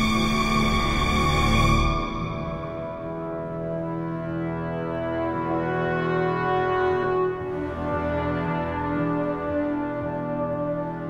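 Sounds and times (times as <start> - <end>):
orchestral brass chords: 0.0 - 11.0.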